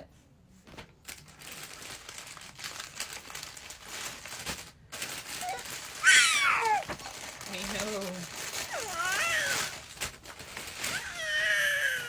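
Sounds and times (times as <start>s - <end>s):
packaging crinkling and rustling: 0.7s - 12.0s.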